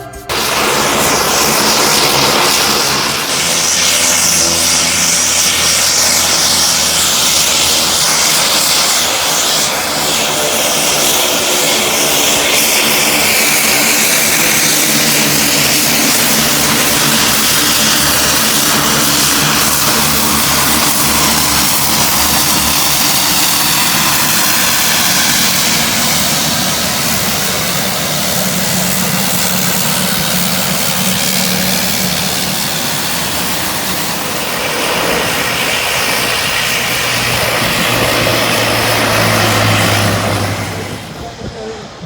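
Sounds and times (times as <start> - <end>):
aircraft engines roaring: 0.0 - 42.0.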